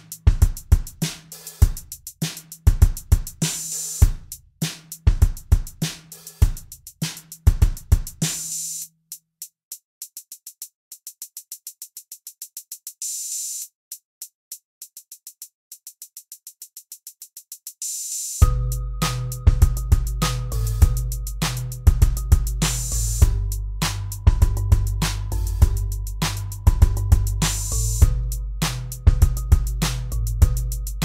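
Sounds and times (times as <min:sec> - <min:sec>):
electronic music with drum machine: 0:00.0 - 0:04.4, 0:10.0 - 0:31.0.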